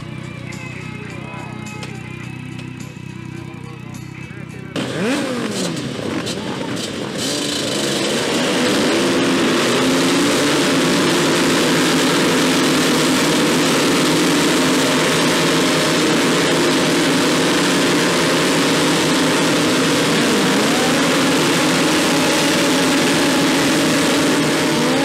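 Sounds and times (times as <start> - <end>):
motorcycles revving: 0.0 - 25.0
tyres spinning on asphalt: 4.7 - 25.0.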